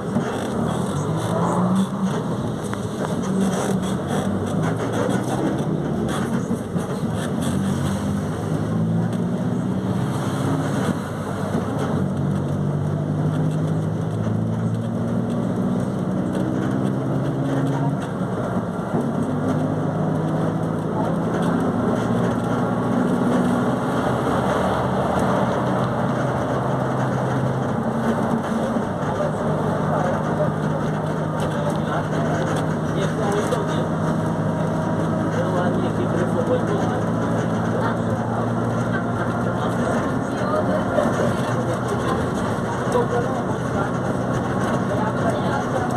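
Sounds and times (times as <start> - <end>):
bus diesel engine accelerating: 0.0 - 45.9.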